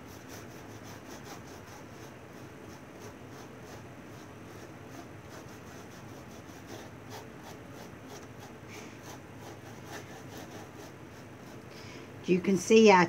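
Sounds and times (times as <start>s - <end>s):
fingers rubbing textured surface: 0.0s - 11.7s.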